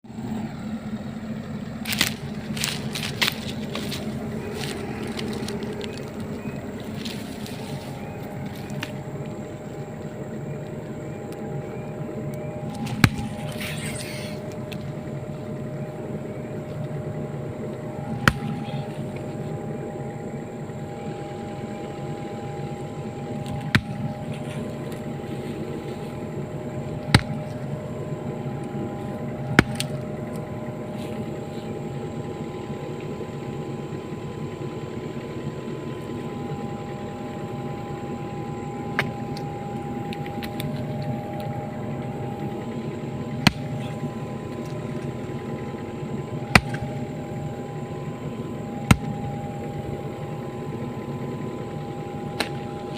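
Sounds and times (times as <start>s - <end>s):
excavator engine humming: 0.0s - 52.9s.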